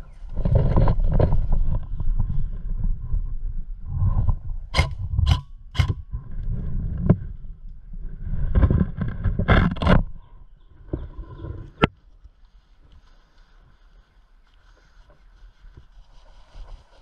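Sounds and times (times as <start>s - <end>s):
rumbling rustle of gear: 0.0s - 5.2s, 6.0s - 17.0s.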